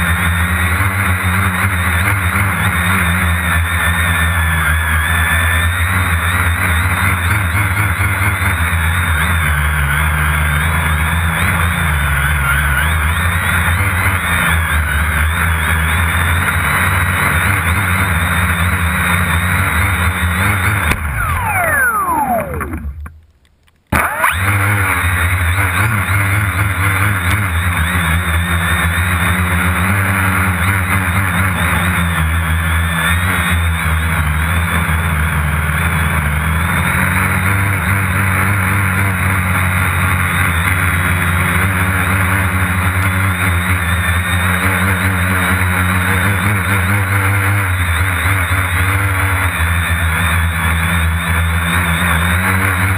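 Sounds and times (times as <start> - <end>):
drone propellers whining: 0.0 - 23.3, 23.9 - 52.9.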